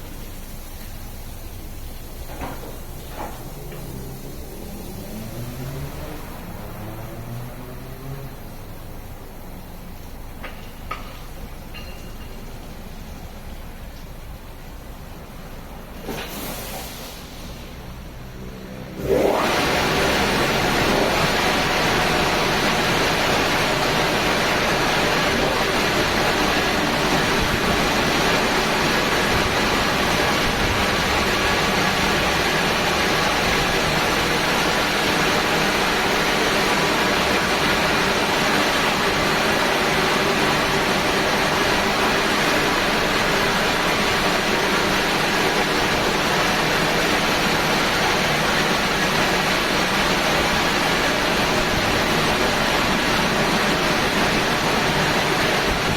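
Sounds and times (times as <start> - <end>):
car wash machine rushing: 0.0 - 55.9.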